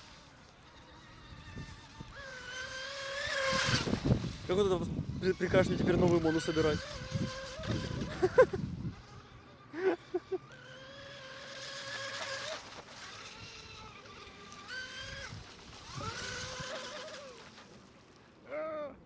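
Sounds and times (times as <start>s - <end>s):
rc boat motor whining: 0.0s - 18.7s.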